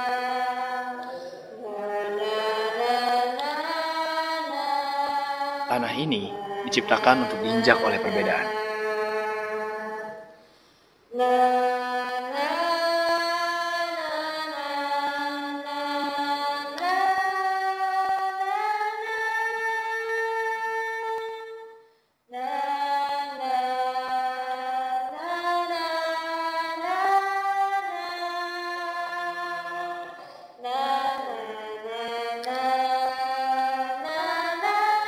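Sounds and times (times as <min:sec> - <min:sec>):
sustained singing music: 0:00.0 - 0:10.4, 0:11.1 - 0:35.0.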